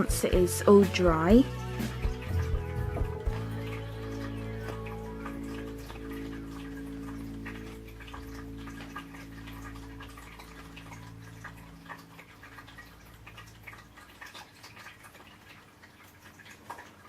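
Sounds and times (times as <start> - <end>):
quiet background music: 0.0 - 15.2.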